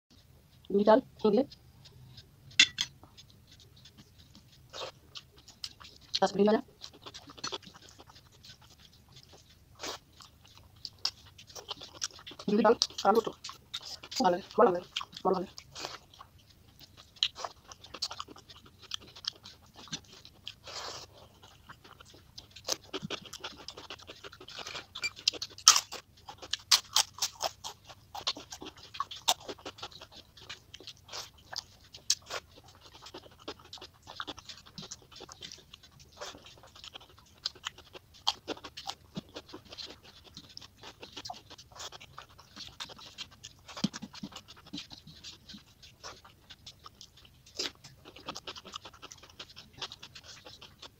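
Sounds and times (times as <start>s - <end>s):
wet chewing and lip smacks: 0.1s - 50.9s.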